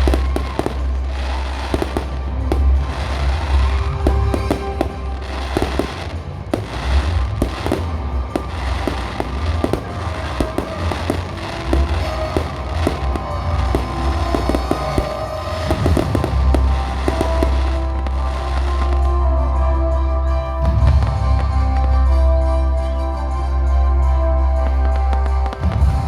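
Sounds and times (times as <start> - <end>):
fireworks bangs and crackles: 0.0 - 19.6, 20.6 - 22.4, 24.6 - 26.0
music playing: 0.0 - 26.0.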